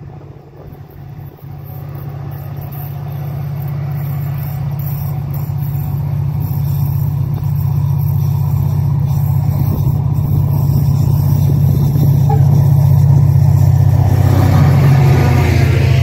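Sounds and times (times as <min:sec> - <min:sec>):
diesel train engine droning: 0:00.0 - 0:16.0.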